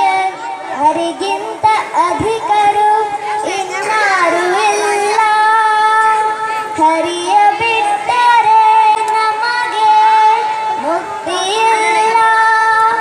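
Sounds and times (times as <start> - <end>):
girl singing into microphone: 0.0 - 13.0.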